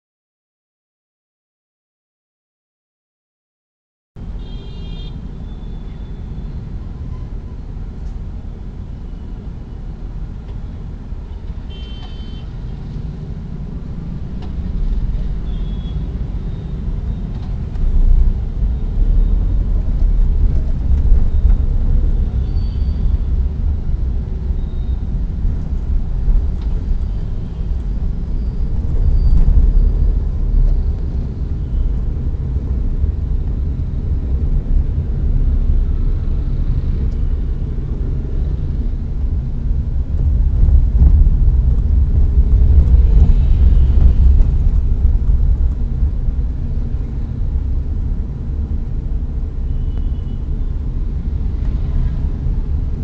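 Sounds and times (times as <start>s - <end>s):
car engine and tyre rumble: 4.2s - 53.0s.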